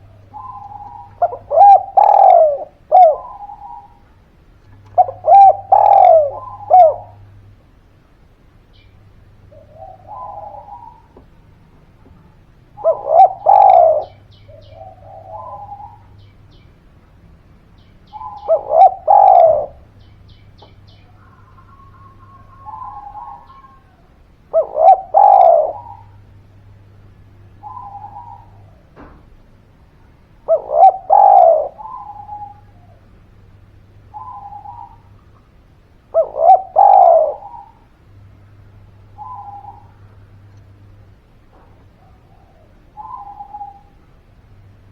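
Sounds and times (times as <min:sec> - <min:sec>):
dove cooing: 0:00.0 - 0:07.6, 0:08.8 - 0:16.5, 0:18.1 - 0:44.9.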